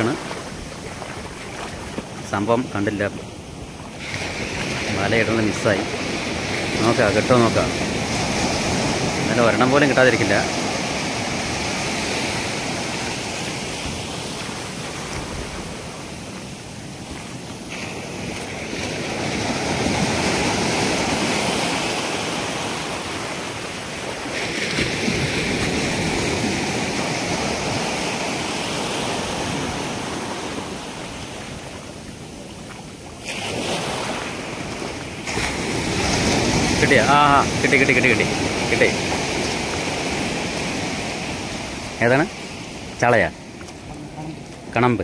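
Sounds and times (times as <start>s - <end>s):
sea surf breaking: 0.0s - 45.0s.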